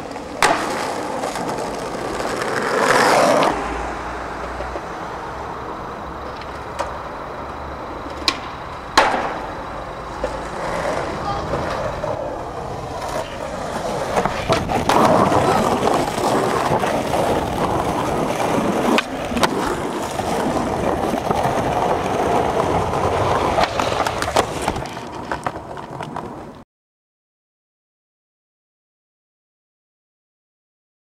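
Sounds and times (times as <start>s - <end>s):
skateboard clacking on ground: 0.0s - 3.6s, 4.2s - 26.6s
skateboard wheels rolling on concrete: 0.0s - 26.6s.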